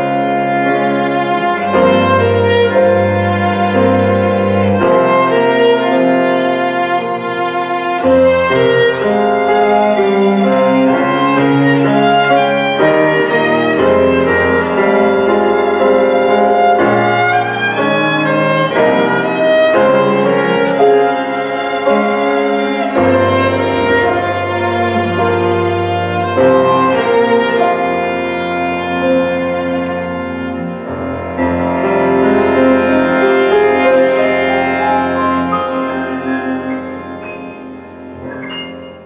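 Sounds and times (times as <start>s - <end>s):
low sustained strings: 0.0s - 39.0s
violin slow melody: 0.0s - 39.0s.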